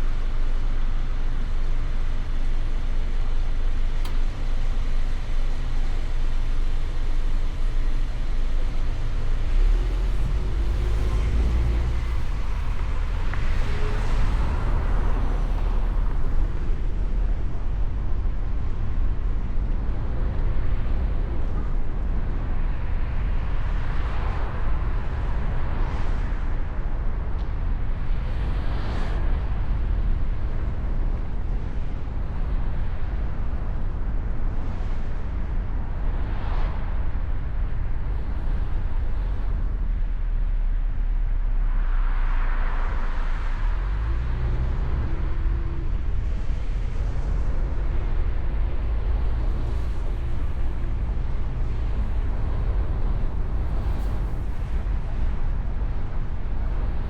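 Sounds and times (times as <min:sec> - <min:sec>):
car engine rumble: 0:00.0 - 0:57.0
tyre and wind noise: 0:06.9 - 0:57.0
vehicles passing: 0:09.0 - 0:57.0.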